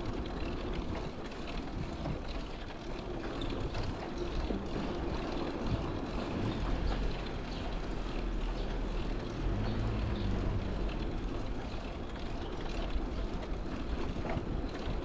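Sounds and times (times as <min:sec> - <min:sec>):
bicycle road rumble: 0:00.0 - 0:15.0.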